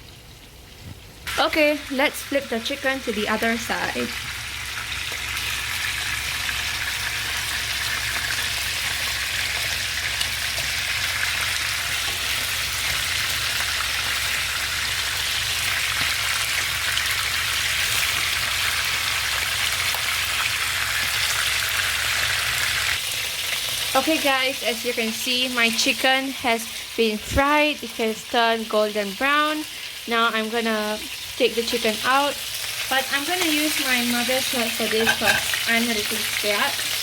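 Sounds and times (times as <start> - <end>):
chicken deep-frying in oil: 0.0 - 37.0.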